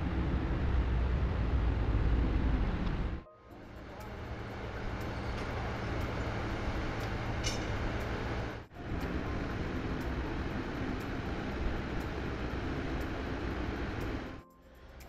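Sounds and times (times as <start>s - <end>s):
construction machinery running: 0.0s - 15.0s.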